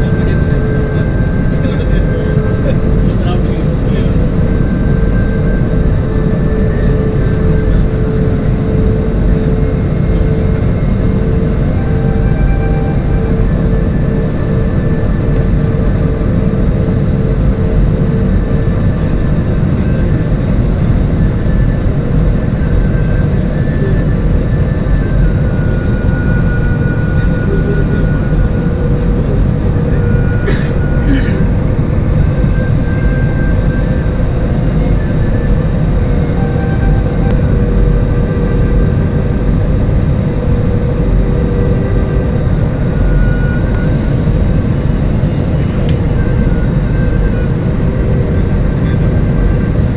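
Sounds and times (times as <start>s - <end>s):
airliner cabin engine rumble: 0.0s - 49.9s
faint whining tones: 0.0s - 49.9s.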